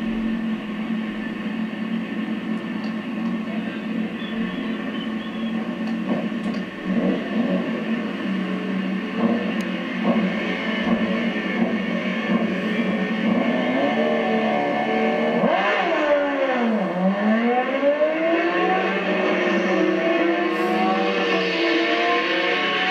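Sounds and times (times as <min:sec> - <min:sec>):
motorcycle engines revving: 0:00.0 - 0:22.9.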